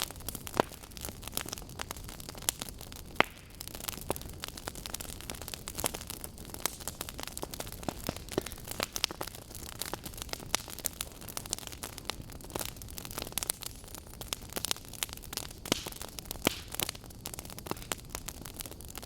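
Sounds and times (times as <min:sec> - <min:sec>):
burning logs crackling: 0:00.0 - 0:19.0.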